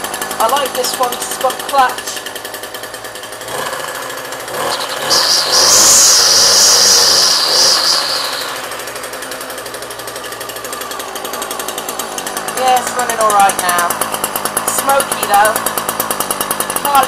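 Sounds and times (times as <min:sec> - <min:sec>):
string trimmer engine revving: 0:00.0 - 0:17.0.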